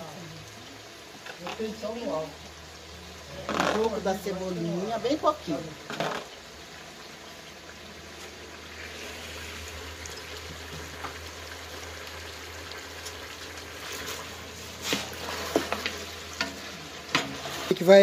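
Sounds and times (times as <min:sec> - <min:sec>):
food sizzling in a pot: 0:00.0 - 0:18.0.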